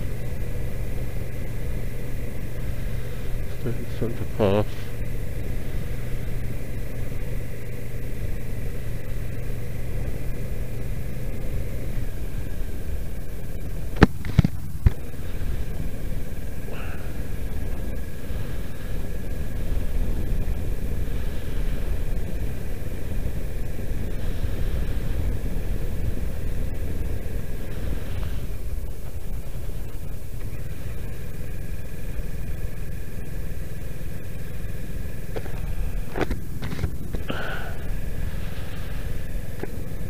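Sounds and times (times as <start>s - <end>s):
low rumble: 0.0s - 40.0s
motorcycle engine running: 0.0s - 40.0s.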